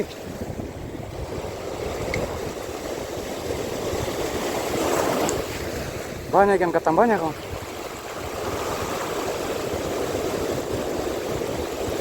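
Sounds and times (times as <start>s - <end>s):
sea water washing: 0.0s - 12.0s
wind buffeting microphone: 0.0s - 12.0s.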